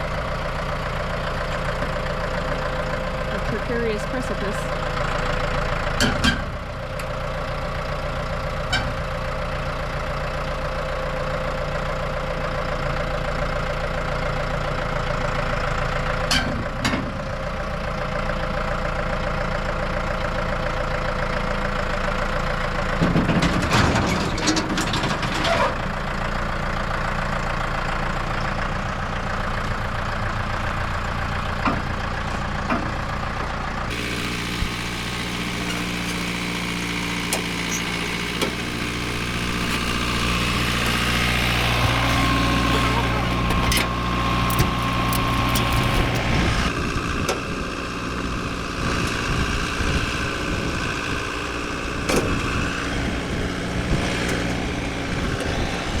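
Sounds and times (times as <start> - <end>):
heavy farm machine engine running: 0.0 - 56.0.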